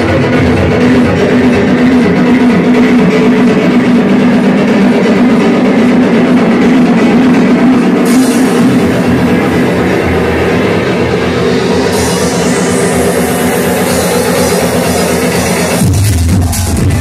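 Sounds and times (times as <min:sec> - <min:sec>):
house music over sound system: 0:00.0 - 0:17.0.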